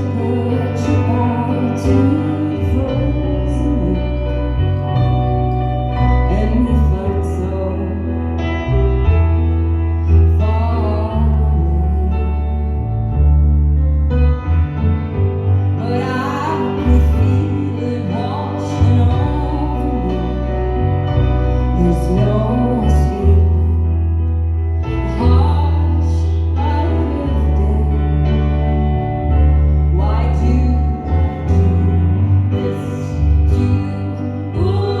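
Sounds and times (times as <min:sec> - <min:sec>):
person singing folk song: 0:00.0 - 0:08.8, 0:10.3 - 0:12.9, 0:15.8 - 0:23.9, 0:24.9 - 0:28.6, 0:29.8 - 0:35.0.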